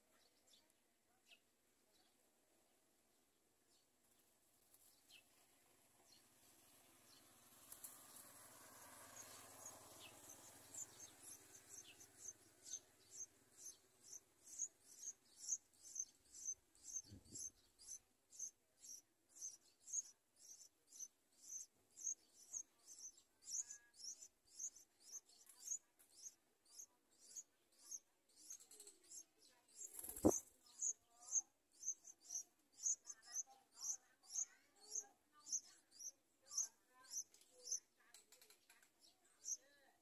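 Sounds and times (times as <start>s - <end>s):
nestlings peeping: 6.0s - 38.0s, 38.9s - 39.8s.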